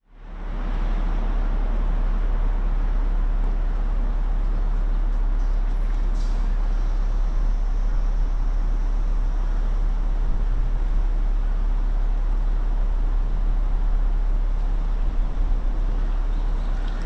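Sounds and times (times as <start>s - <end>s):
city ambience noise: 0.0s - 17.0s
deep traffic rumble: 0.0s - 17.0s.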